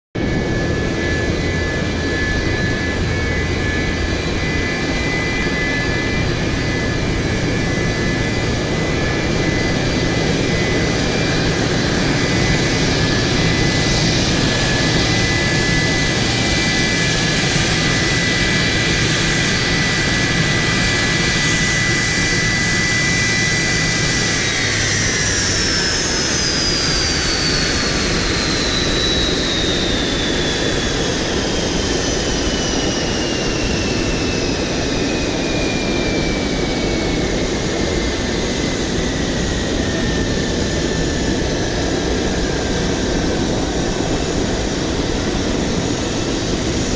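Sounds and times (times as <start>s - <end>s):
jet engine high whine: 0.2s - 46.9s
jet engine hiss and rumble: 0.2s - 46.9s.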